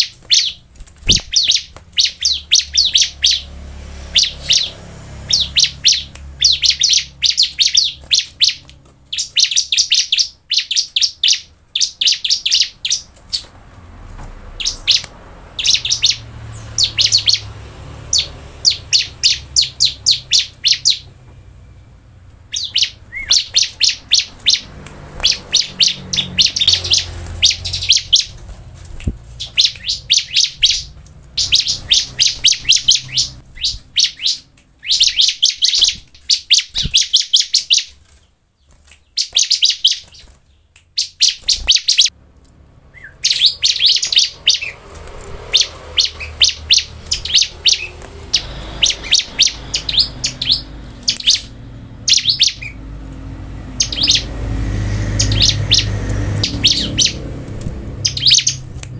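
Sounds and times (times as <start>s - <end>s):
bird chirping song: 0.0s - 13.6s, 14.4s - 42.2s, 42.8s - 58.9s.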